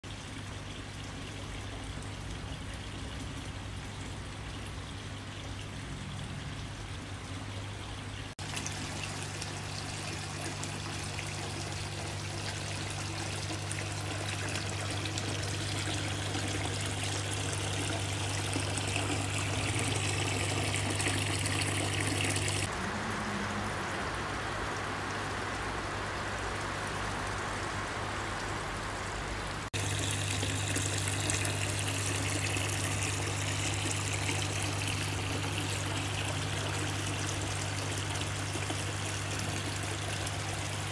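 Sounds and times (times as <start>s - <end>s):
fountain water pouring and trickling: 0.0s - 25.2s, 29.7s - 40.9s.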